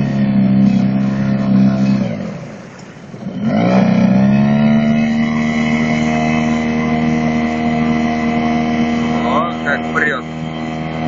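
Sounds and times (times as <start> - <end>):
outboard motor revving: 0.0 - 11.0.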